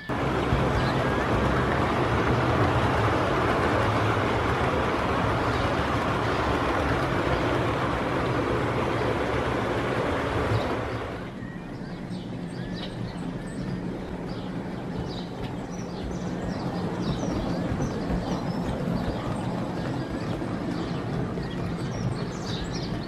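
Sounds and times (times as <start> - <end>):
birds chirping: 0.0 - 23.0
train coaches rumbling past: 0.0 - 23.0.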